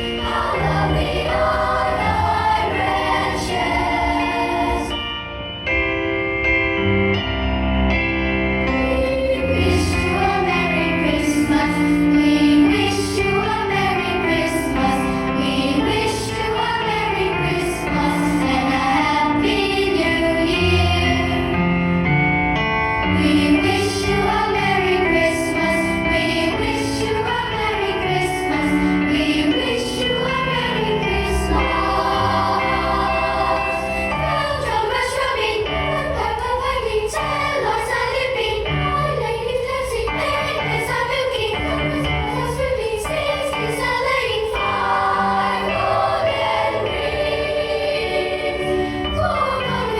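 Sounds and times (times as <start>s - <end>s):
choir singing: 0.0s - 5.4s, 8.6s - 22.3s, 23.0s - 49.9s.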